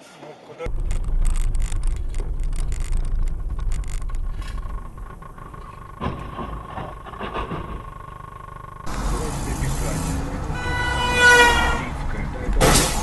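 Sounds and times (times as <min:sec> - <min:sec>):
steady tone: 0:00.7 - 0:12.2
car driving on road rumble: 0:00.7 - 0:13.0.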